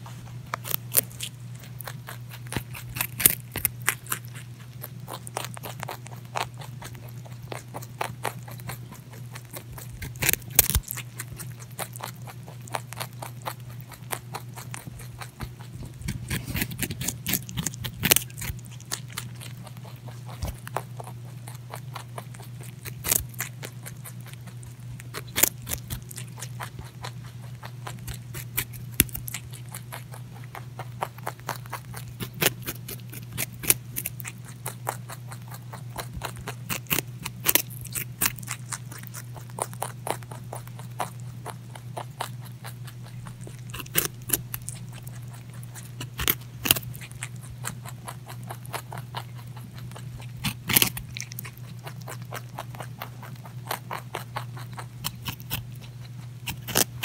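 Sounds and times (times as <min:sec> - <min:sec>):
rabbit crunching carrot: 0:00.0 - 0:57.0
steady low hum: 0:00.0 - 0:57.0.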